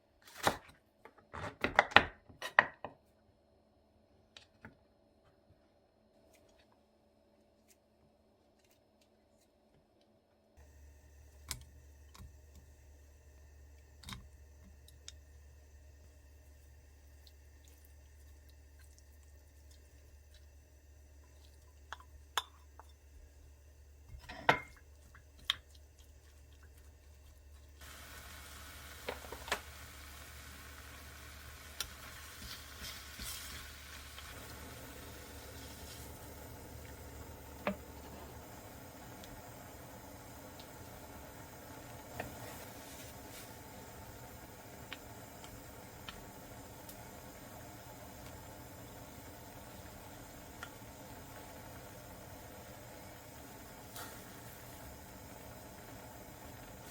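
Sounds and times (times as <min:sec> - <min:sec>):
low steady hum: 0:10.3 - 0:56.9
food sizzling in a pan: 0:10.6 - 0:56.9.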